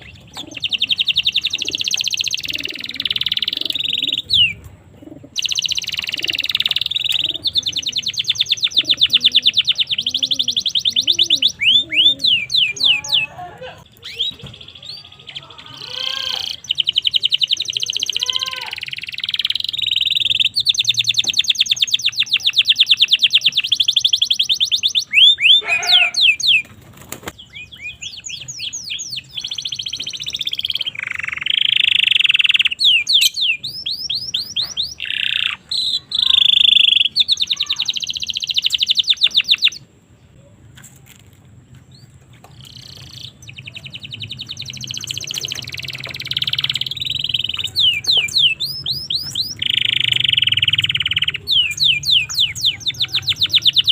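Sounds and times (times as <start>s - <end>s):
canary singing trills: 0.0s - 40.5s, 41.9s - 53.9s.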